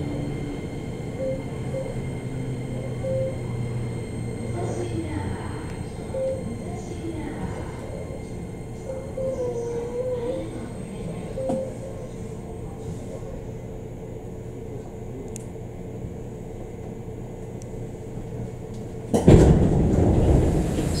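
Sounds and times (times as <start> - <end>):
train wheels rumbling: 0.0 - 14.6, 15.7 - 21.0.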